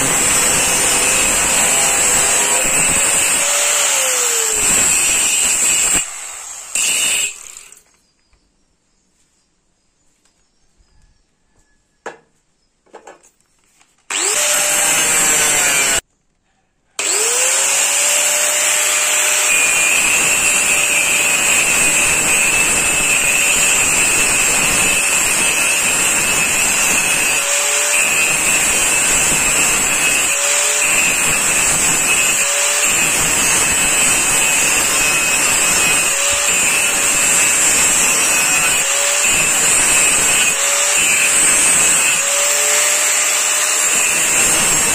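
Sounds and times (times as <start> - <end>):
angle grinder whining: 0.0 - 7.8, 14.1 - 16.0, 17.0 - 44.9.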